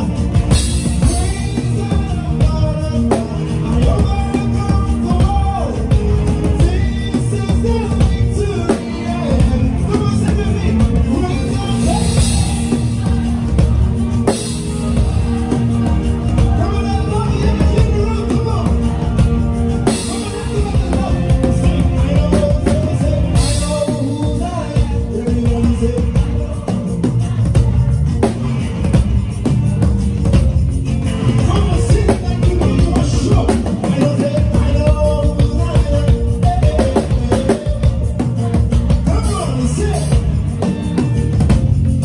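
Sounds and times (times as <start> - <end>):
praise band playing upbeat groove: 0.0 - 42.0.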